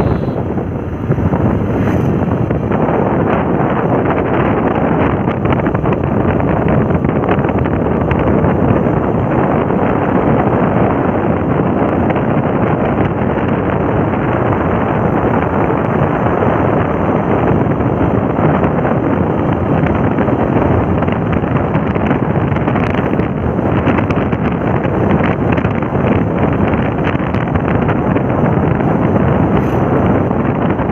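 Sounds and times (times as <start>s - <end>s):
motorcycle running: 0.0s - 30.9s
wind buffeting microphone: 0.0s - 30.9s.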